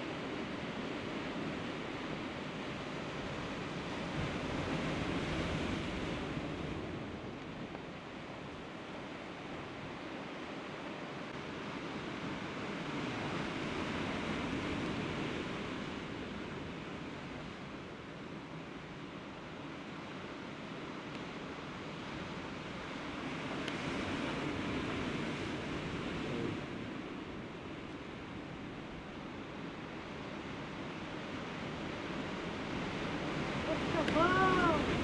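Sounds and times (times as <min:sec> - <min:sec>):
sea surf on rocky shore: 0:00.0 - 0:35.0.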